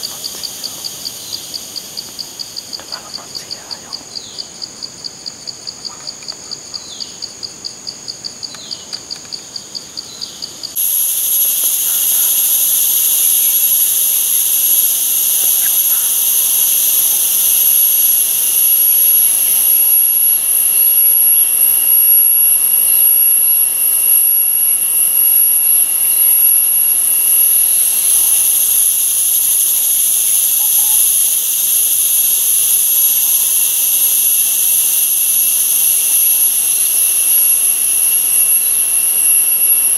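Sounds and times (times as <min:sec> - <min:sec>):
high-pitched insect drone: 0:00.0 - 0:39.9
pulsing insect call: 0:00.0 - 0:39.9.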